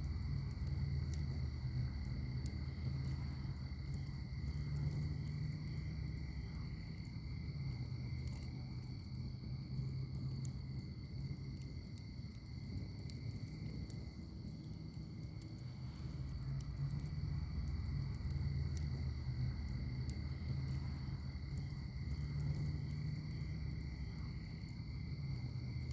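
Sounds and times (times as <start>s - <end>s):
insects trilling: 0.0s - 25.9s
wood fire crackling: 0.0s - 25.9s.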